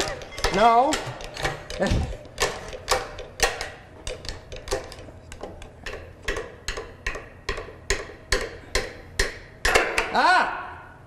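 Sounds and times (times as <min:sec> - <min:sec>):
hand tools clicking on metal: 0:00.0 - 0:10.2.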